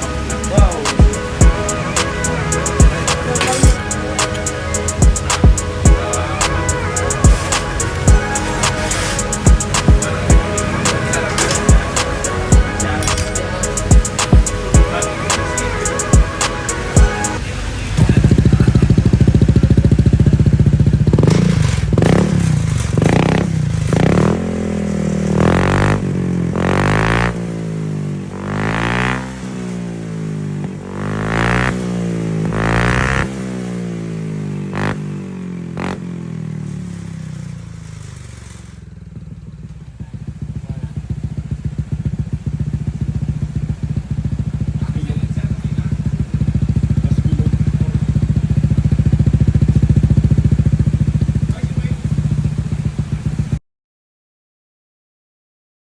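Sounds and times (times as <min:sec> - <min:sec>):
scooter engine idling and revving: 0:00.0 - 0:53.6.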